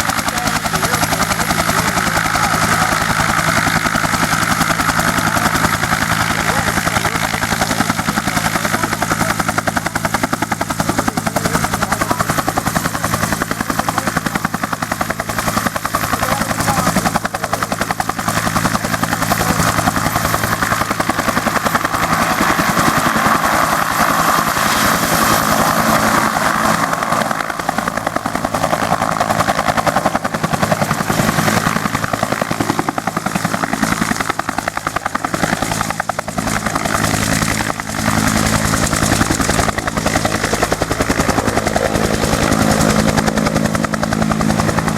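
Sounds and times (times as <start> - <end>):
helicopter rotor beating: 0.0 - 44.9
turbine engine whine: 0.0 - 44.9.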